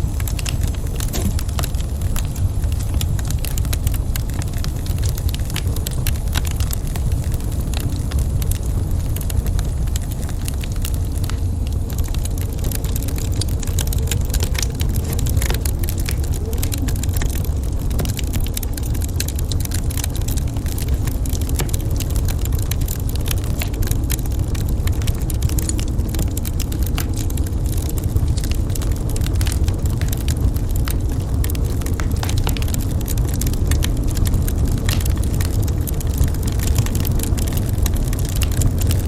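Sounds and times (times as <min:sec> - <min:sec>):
low fire rumble: 0:00.0 - 0:39.0
wood fire crackling: 0:00.0 - 0:39.0.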